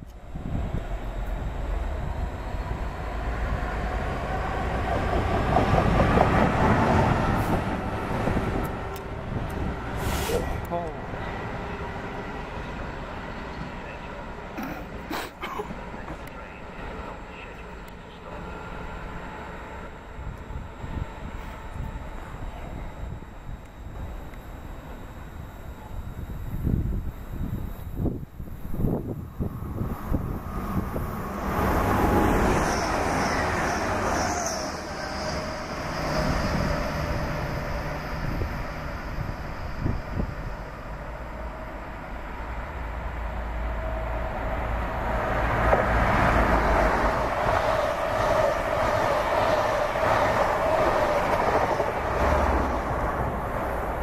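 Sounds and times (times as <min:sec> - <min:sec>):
diesel locomotives rumbling: 0:00.0 - 0:54.0.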